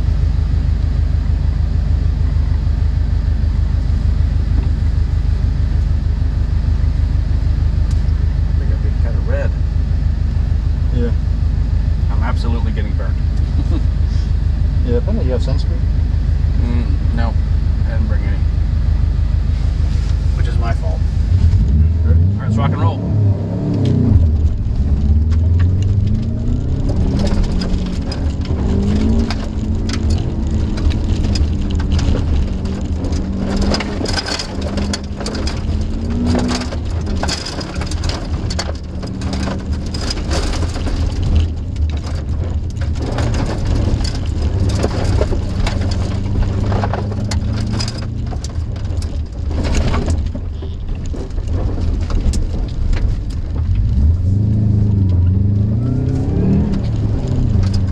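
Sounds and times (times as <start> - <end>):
gravel rattling against car underbody: 0.0 - 22.9, 23.8 - 57.9
car engine droning: 0.0 - 57.9.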